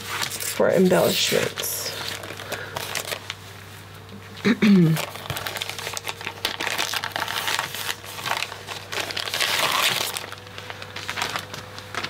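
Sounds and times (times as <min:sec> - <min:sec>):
plastic crinkling: 0:00.0 - 0:03.4, 0:04.9 - 0:12.0.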